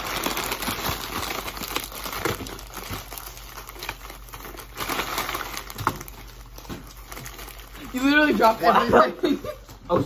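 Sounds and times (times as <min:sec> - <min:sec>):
plastic wrappers crinkling: 0:00.0 - 0:10.0.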